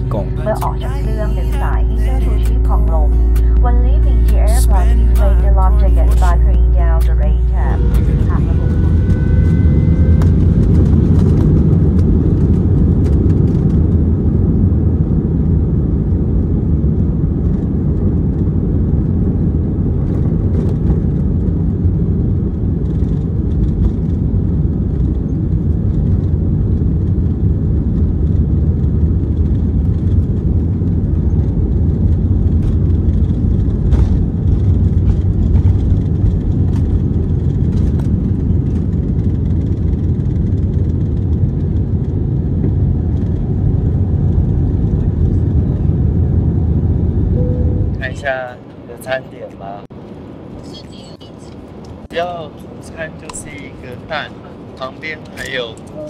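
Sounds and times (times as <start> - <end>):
airliner cabin engine roar: 0.0 - 56.0.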